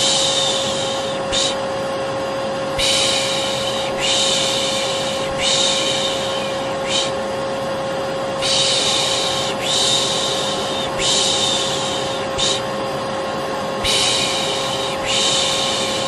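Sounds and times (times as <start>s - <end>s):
vacuum cleaner humming: 0.0s - 16.0s.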